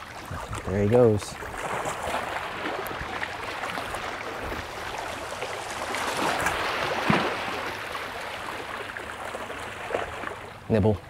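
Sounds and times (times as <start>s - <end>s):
waves lapping against shore: 0.0s - 11.0s.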